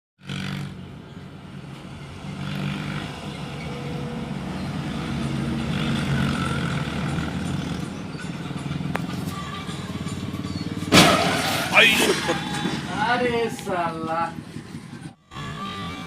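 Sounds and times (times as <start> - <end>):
vehicle engine running: 0.2 - 15.0.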